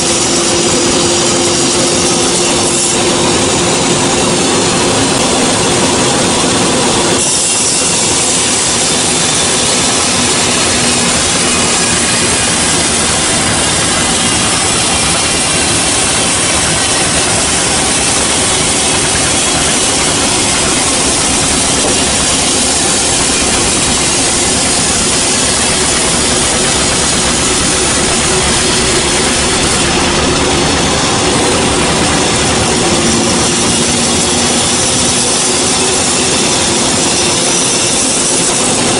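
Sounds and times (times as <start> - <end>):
band saw cutting log: 0.0 - 38.9
machine running hum: 0.0 - 38.9.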